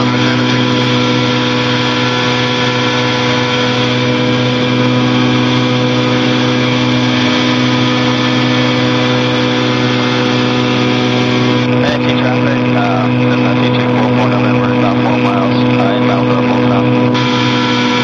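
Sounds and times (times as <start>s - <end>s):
light aircraft engine droning: 0.0s - 18.0s.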